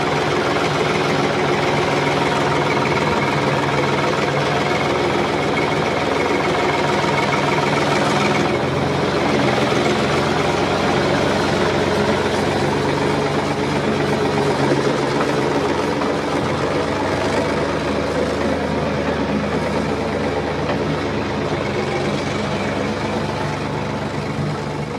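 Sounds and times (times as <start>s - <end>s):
heavy farm machine engine: 0.0s - 24.9s.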